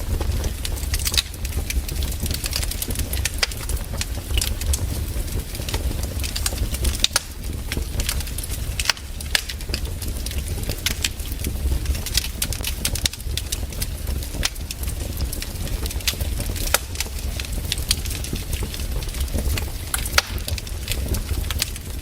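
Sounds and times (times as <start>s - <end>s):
fire popping and snapping: 0.0s - 22.0s
fire rumbling: 0.0s - 22.0s.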